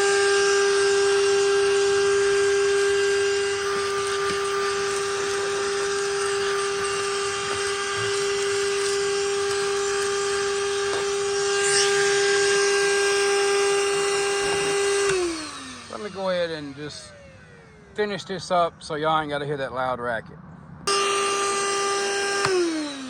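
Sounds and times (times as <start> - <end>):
vacuum motor whine: 0.0 - 18.4, 20.9 - 23.0.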